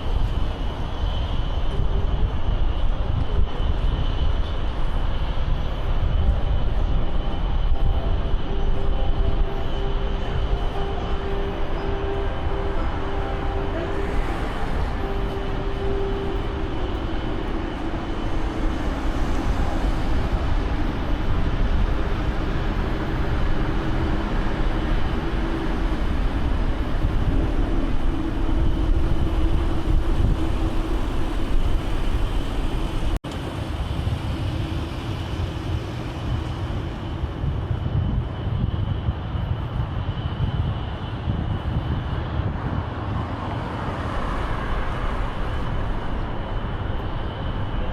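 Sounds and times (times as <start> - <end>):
vehicle traffic rumble: 0.0 - 39.1, 40.5 - 47.9
droning engine hum: 0.0 - 47.9.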